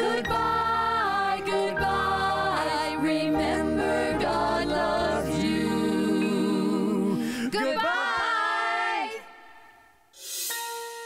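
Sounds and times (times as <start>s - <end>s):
people singing children's song: 0.0s - 9.3s.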